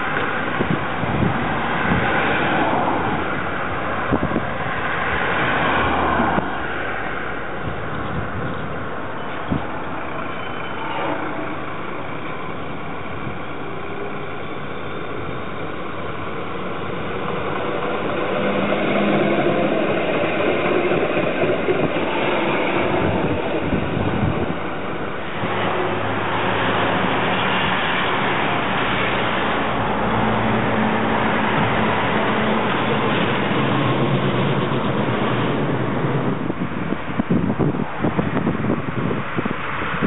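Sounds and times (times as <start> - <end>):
electric tram passing: 0.0 - 40.0
steady traffic hum: 0.0 - 40.0.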